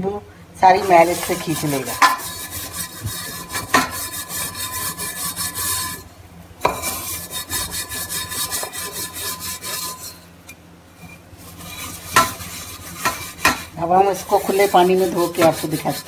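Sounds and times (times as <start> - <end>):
steel wool scrubbing metal: 0.6 - 10.3, 11.0 - 16.0.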